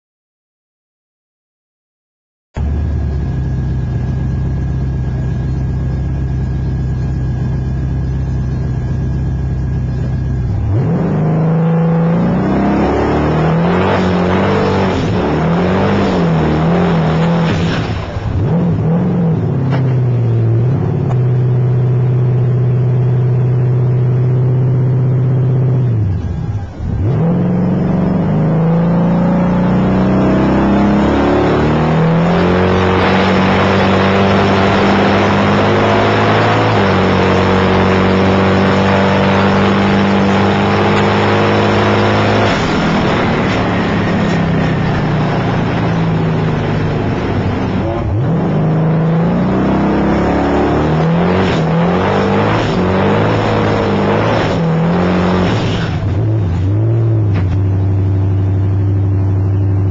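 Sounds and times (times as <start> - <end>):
race car engine revving: 7.0 - 58.5.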